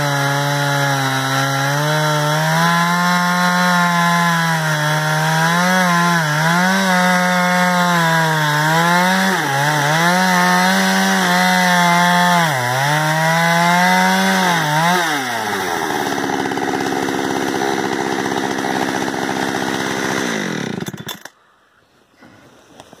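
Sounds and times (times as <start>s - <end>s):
chainsaw ripping a log: 0.0s - 21.3s.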